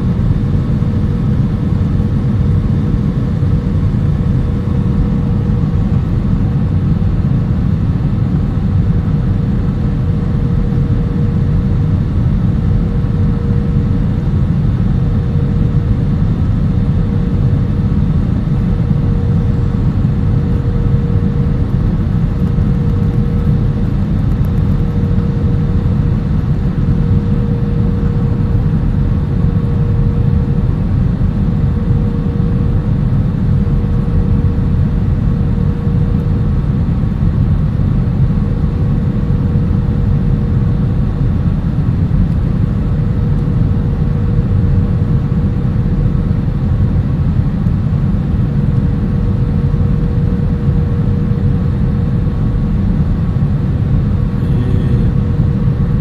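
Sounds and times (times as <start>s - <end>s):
faint steady hum: 0.0s - 56.0s
jet engine and airflow rush: 0.0s - 56.0s.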